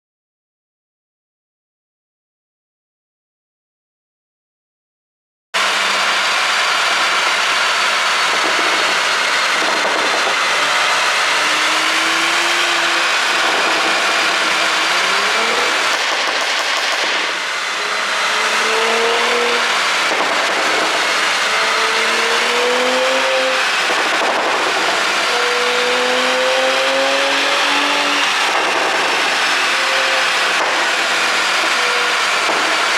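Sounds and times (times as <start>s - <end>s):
car engine revving: 5.6s - 32.9s.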